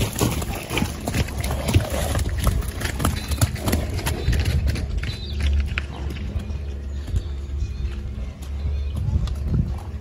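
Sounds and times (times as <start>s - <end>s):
hoofbeats on soft dirt: 0.0s - 10.0s.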